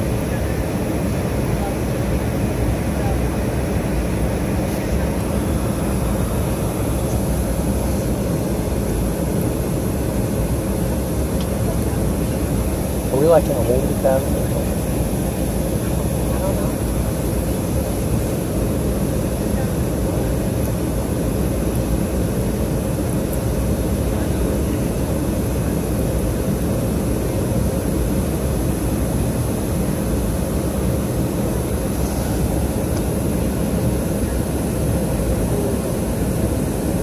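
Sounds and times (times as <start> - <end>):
jet engines in aircraft cabin: 0.0 - 37.0.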